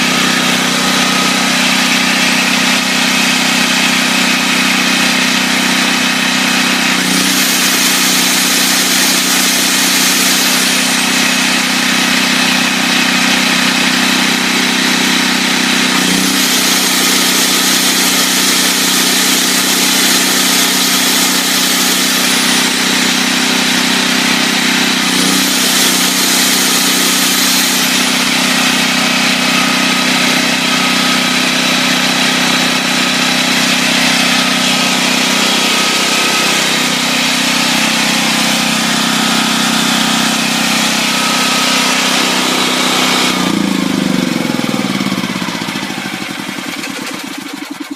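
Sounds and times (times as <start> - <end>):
generator engine running: 0.0 - 47.9.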